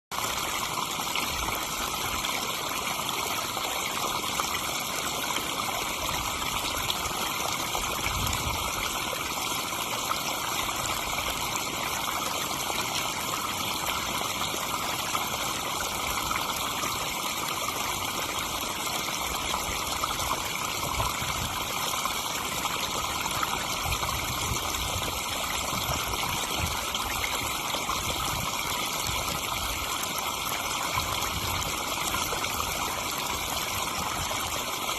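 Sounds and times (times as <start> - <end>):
waterfall splashing into pond: 0.1 - 34.9.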